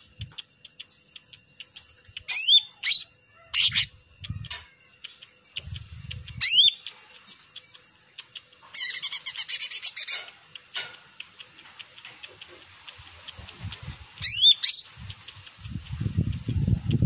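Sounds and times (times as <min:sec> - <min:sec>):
faint clicks: 0:00.0 - 0:02.5, 0:04.2 - 0:17.0
bird chattering song: 0:00.0 - 0:17.0.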